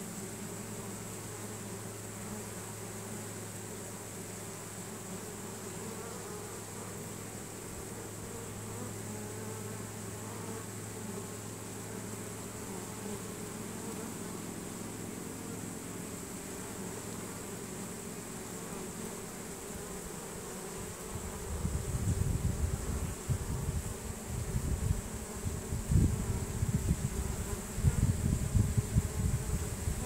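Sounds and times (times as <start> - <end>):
bee swarm buzzing: 0.0 - 30.0.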